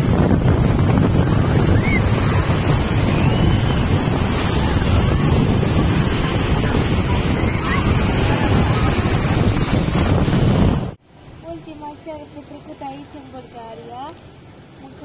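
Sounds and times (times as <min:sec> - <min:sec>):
sea surf breaking: 0:00.0 - 0:12.0
wind buffeting microphone: 0:00.0 - 0:12.8.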